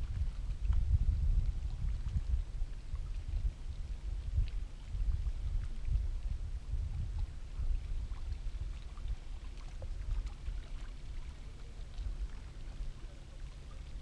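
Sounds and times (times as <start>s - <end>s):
water lapping against hull: 0.0s - 14.0s
wind buffeting microphone: 0.0s - 14.0s.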